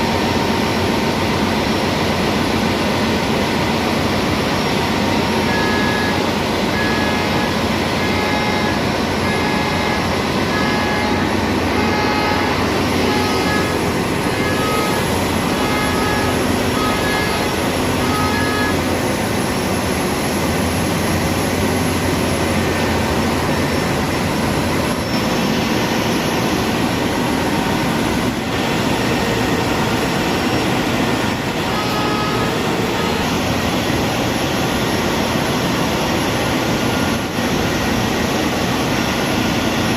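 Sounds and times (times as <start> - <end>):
engine room machinery noise: 0.0 - 39.9.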